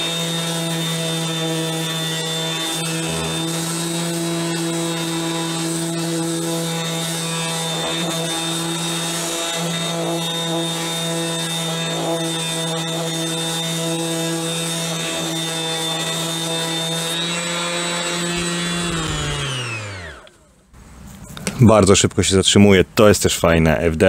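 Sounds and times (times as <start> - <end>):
orbital sander sanding wood: 0.0 - 20.6.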